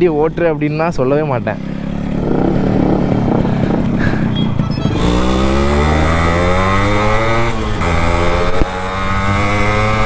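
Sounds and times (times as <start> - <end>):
two-stroke motorcycle accelerating: 0.0 - 10.0.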